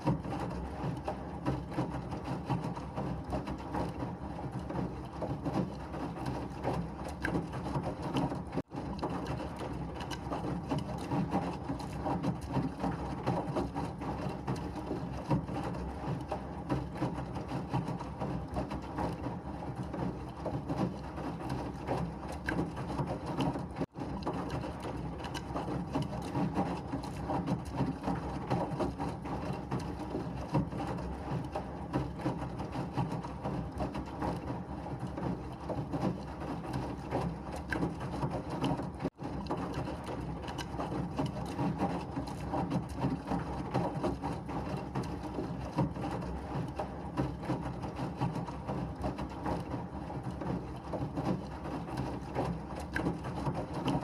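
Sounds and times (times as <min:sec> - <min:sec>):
washing machine churning: 0:00.0 - 0:54.0.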